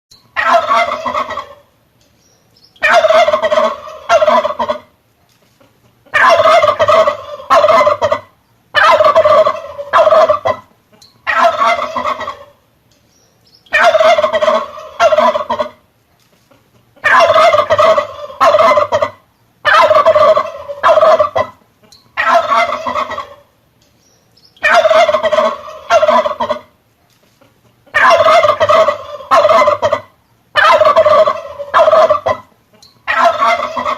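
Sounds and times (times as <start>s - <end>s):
turkey gobbling: 0.3s - 1.8s, 2.7s - 5.0s, 5.6s - 12.6s, 13.6s - 15.8s, 16.5s - 23.6s, 24.5s - 26.8s, 27.4s - 33.9s.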